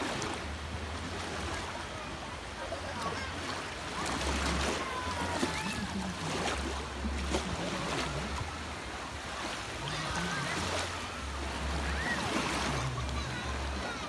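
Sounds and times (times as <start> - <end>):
waves washing onto beach: 0.0 - 14.0.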